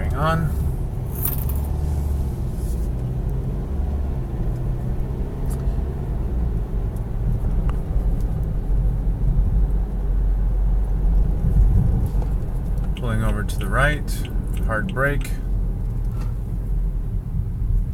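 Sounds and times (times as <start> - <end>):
car engine and road rumble: 0.0 - 17.9.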